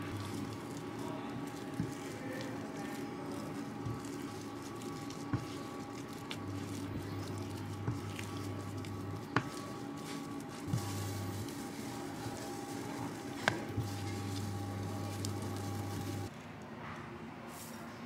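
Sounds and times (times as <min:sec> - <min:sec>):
spatula stirring thick paste: 0:00.0 - 0:16.3.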